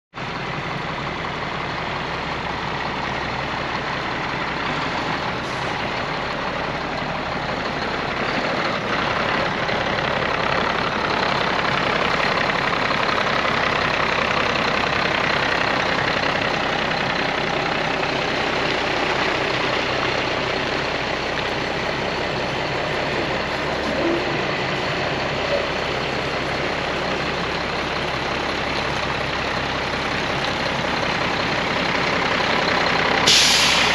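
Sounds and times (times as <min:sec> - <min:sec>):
diesel truck running: 0:00.1 - 0:33.9.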